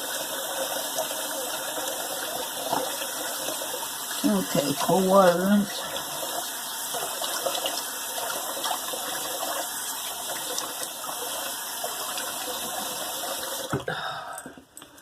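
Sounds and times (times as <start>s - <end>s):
tap water running into sink: 0.0s - 13.9s.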